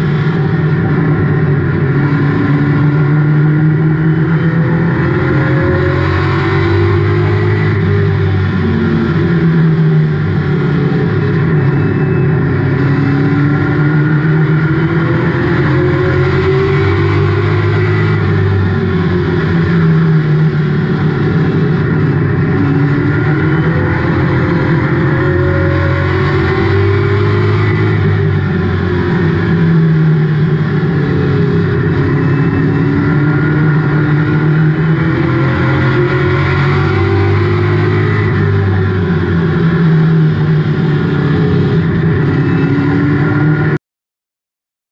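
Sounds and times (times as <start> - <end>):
race car engine: 0.0 - 43.8.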